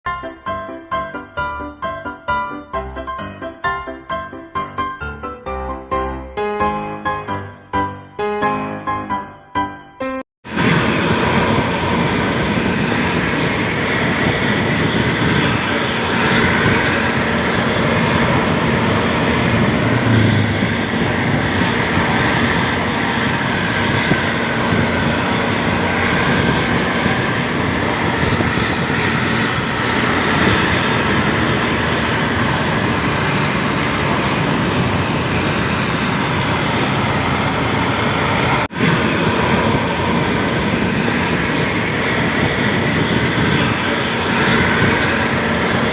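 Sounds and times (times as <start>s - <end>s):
bus diesel engine growling: 0.0s - 9.4s, 10.4s - 45.9s
road noise: 0.0s - 45.9s.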